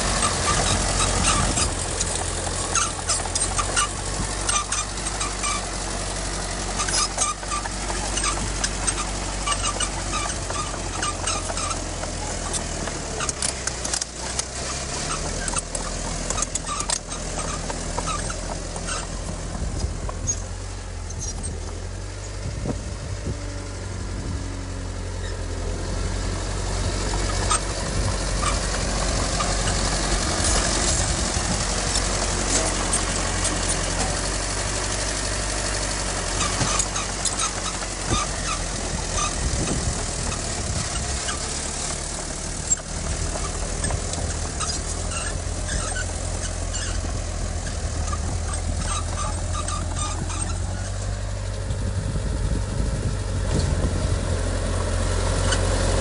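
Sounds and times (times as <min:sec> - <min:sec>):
diesel machinery rumbling: 0:00.0 - 0:56.0
short squeaks: 0:00.0 - 0:56.0.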